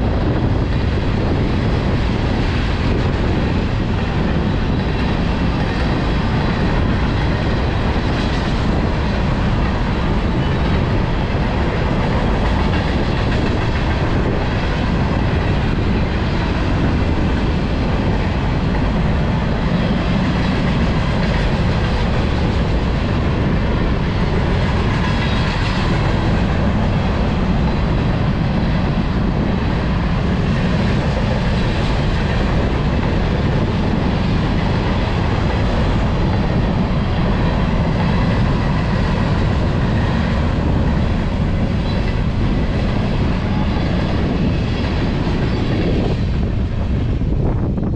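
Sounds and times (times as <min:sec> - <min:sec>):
freight train wheels on rails: 0:00.0 - 0:47.9.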